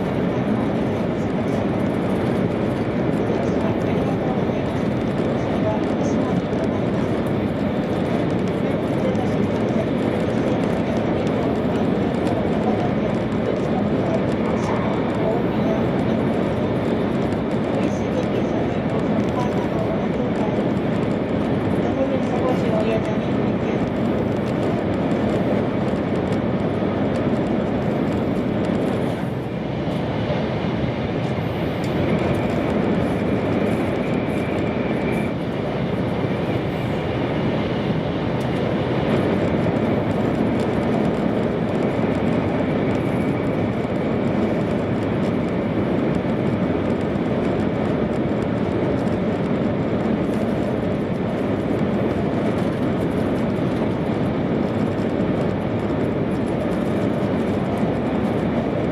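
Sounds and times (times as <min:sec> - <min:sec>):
train interior rumble: 0:00.0 - 0:58.9.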